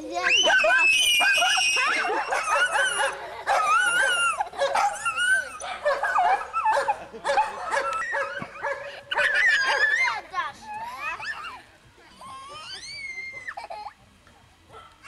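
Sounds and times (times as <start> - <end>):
children squealing in play: 0.0 - 14.0.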